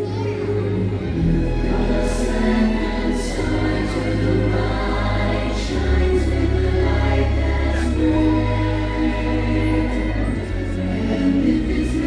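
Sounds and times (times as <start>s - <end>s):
choir singing: 0.5s - 12.0s
long low bass notes: 0.6s - 12.0s.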